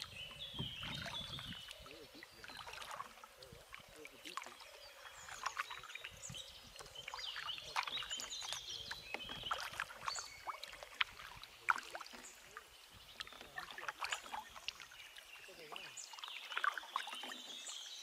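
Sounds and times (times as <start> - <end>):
paddle strokes splashing water: 0.0 - 17.7
water dripping off paddle: 0.0 - 17.7.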